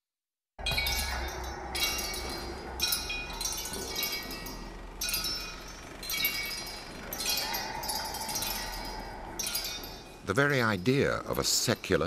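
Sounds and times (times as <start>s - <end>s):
high glassy chiming tones: 0.6s - 12.0s.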